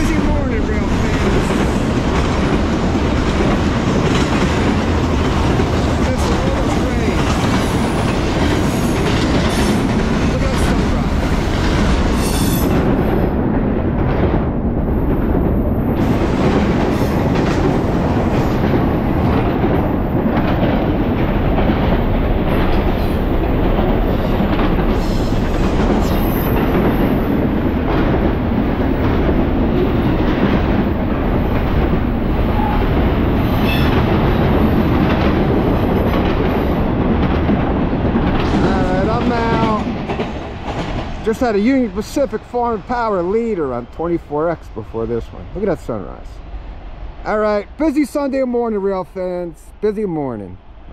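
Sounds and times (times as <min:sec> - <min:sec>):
wheels clicking over rail joints: 0:00.0 - 0:43.6
freight train rumbling past: 0:00.0 - 0:50.9.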